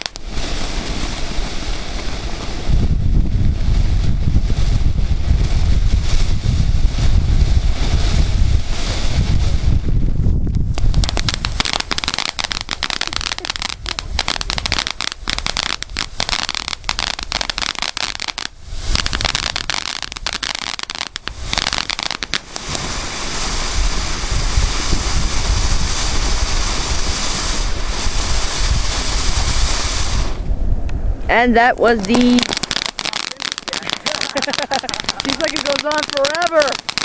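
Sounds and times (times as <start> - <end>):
fireworks crackling pops: 0.0 - 31.0, 31.6 - 37.0
wind noise on microphone: 0.0 - 37.0.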